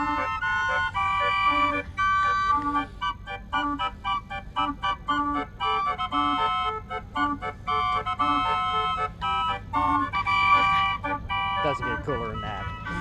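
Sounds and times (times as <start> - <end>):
mechanical organ playing lively tune: 0.0 - 13.0.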